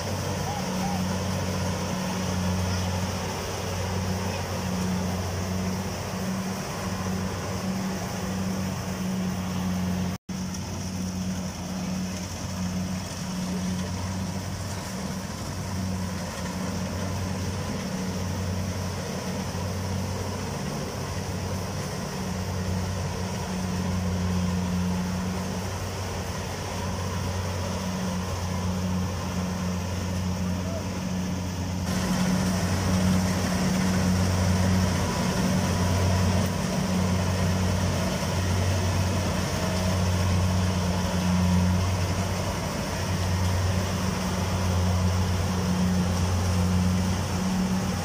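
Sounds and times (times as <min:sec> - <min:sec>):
harvester engine drone: 0:00.0 - 0:48.0.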